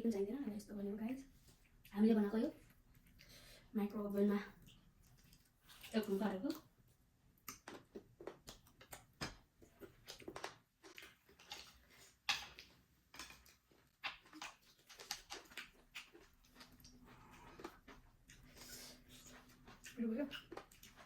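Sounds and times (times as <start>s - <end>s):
chewing: 1.4s - 3.6s, 4.5s - 6.7s, 7.4s - 21.0s.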